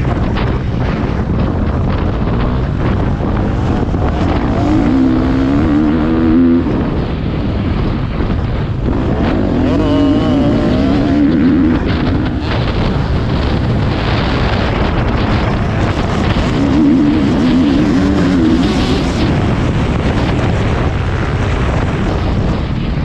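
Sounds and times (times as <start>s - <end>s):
motocross bike engine revving: 0.0s - 7.2s, 8.8s - 20.8s
wind rush on camera: 0.0s - 23.0s.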